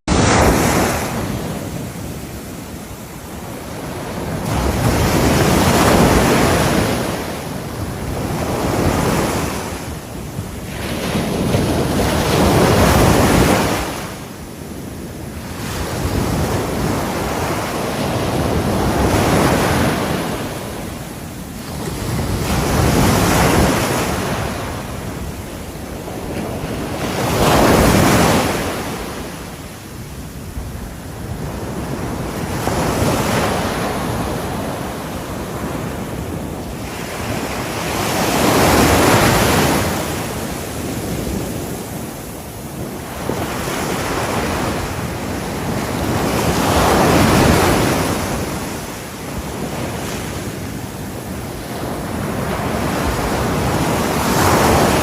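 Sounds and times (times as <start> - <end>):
ocean waves breaking: 0.1 - 55.0
wind noise on microphone: 0.1 - 55.0.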